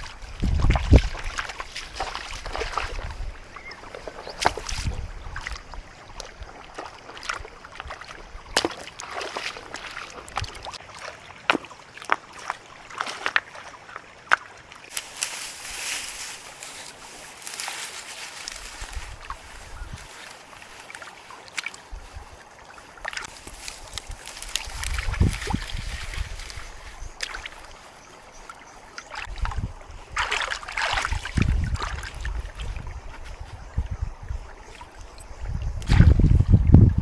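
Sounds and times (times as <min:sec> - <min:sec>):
water splashing and sloshing: 0:00.0 - 0:37.0.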